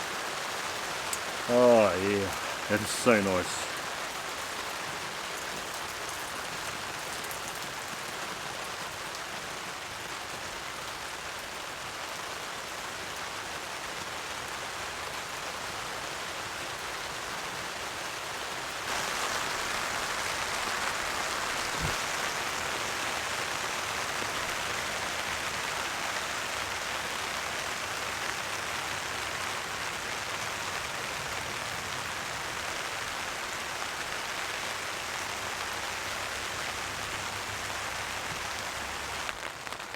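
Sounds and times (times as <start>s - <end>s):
rain pattering on a tarp: 0.0s - 39.9s.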